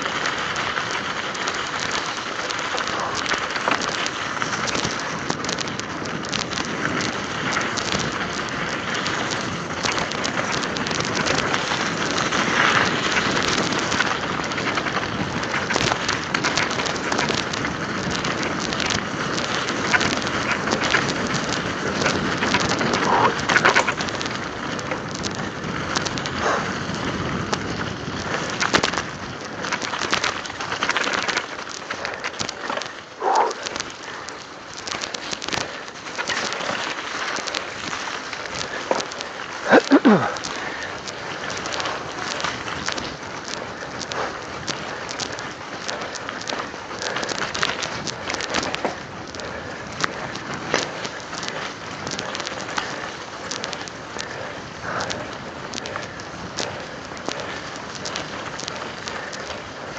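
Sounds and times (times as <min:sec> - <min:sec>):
bike tyres on icy slush: 0:00.0 - 0:59.9.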